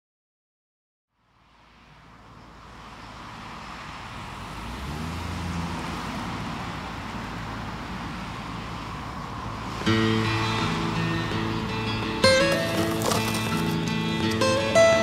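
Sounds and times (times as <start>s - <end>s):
road traffic noise: 1.1s - 15.0s
vehicle engine hum: 1.1s - 15.0s.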